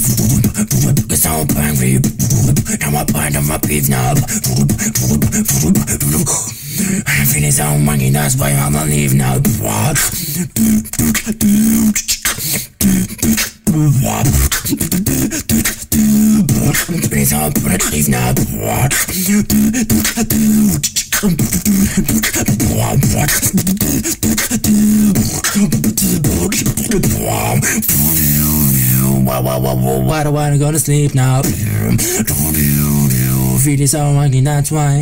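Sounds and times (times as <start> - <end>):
vocal bass line: 0.0 - 35.0
vocal beatboxing: 0.0 - 35.0.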